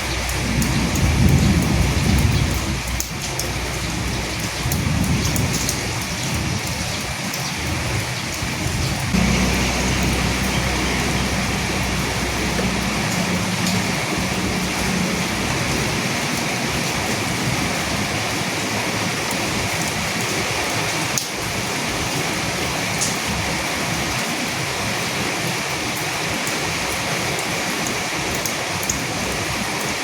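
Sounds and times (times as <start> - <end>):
steady rain patter: 0.0 - 30.0.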